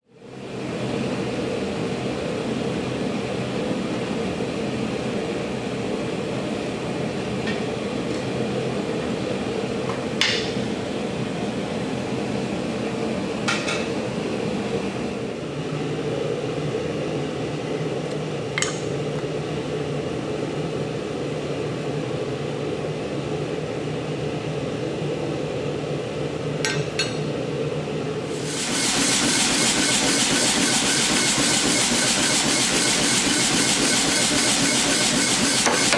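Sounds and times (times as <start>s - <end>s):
steady mechanical hum: 0.0s - 35.9s.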